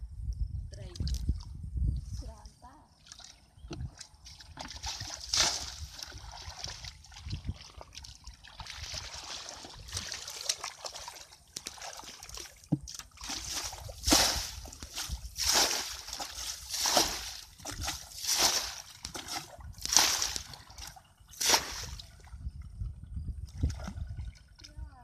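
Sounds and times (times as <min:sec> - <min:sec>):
water splashing and sloshing: 0:02.2 - 0:25.0
bucket scooping water: 0:03.0 - 0:24.9.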